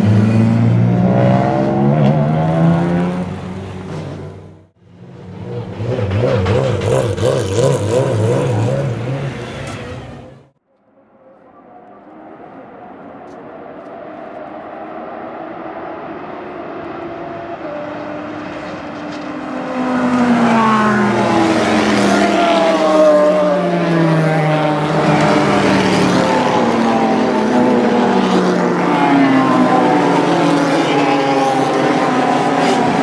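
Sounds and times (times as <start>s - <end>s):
race cars at full throttle: 0.0s - 33.0s.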